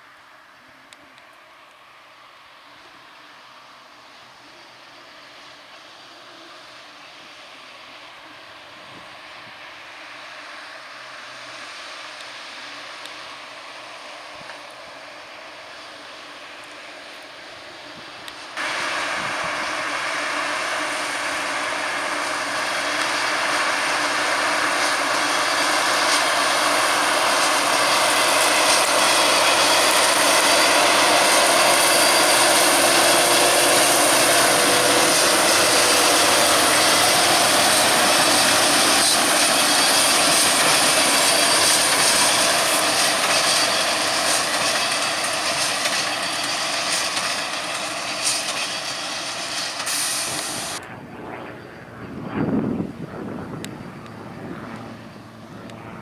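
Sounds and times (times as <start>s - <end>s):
tractor and baler droning: 0.0s - 56.0s.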